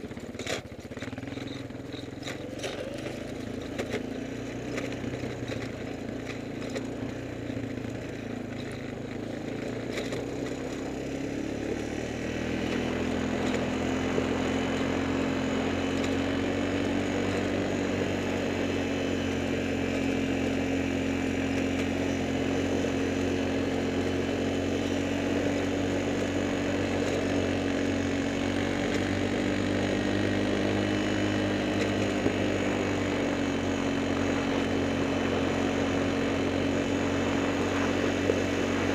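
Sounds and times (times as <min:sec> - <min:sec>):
small motor humming: 0:01.0 - 0:38.9.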